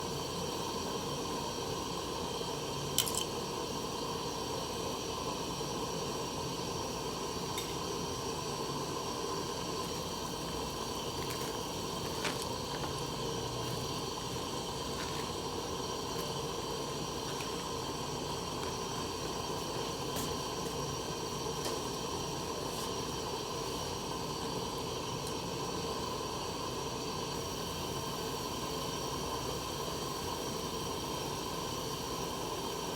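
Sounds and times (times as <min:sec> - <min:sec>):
steady hiss: 0:00.0 - 0:32.9.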